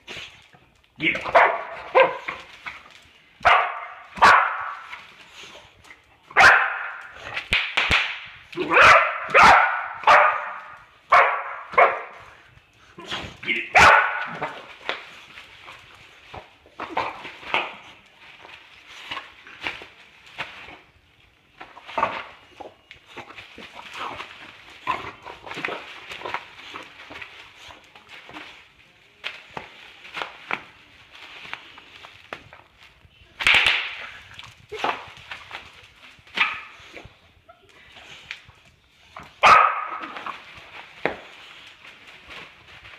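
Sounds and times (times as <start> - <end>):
bubble wrap crinkling and popping: 0.0 - 42.9.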